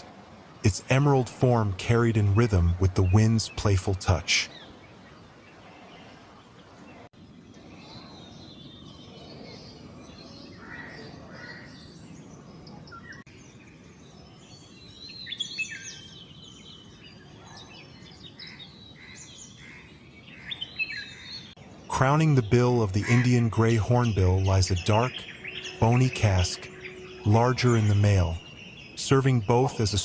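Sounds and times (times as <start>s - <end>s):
background hiss: 0.0s - 10.4s, 11.7s - 30.0s
birds chirping and calling: 0.0s - 30.0s.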